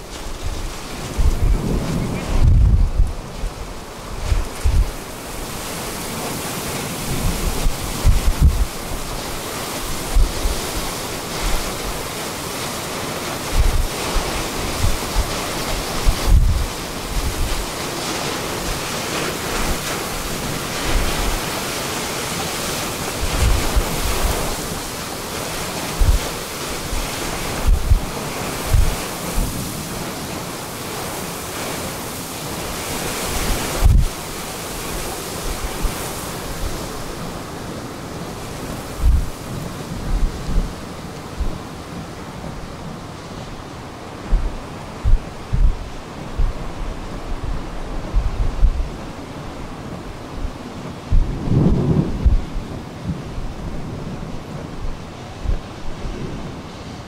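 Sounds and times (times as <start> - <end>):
strong storm wind rushing: 0.0 - 57.0
wind gusts buffeting microphone: 0.0 - 57.0.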